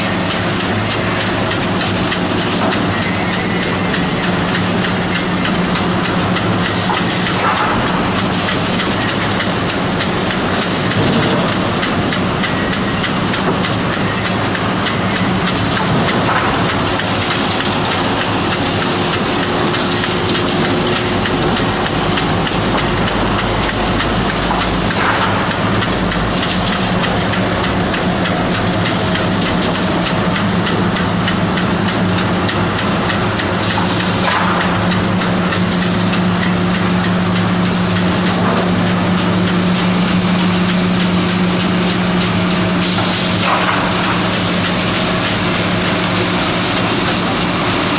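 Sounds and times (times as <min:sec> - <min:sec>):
wood-processing machinery running: 0:00.0 - 0:47.9.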